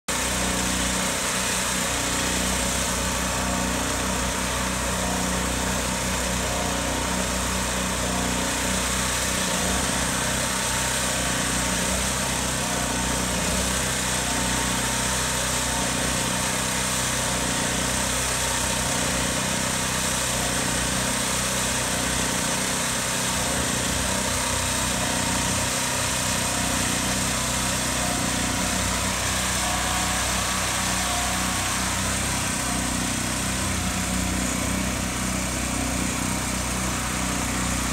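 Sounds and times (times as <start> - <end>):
small engine humming: 0.1 - 37.9.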